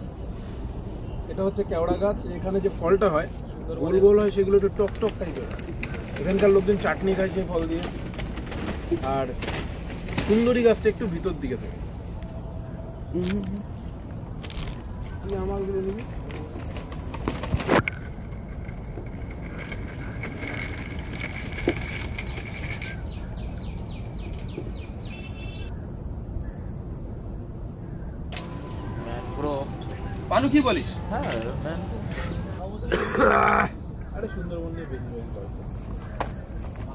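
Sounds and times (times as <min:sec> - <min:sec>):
insects shrilling: 0:00.0 - 0:36.9.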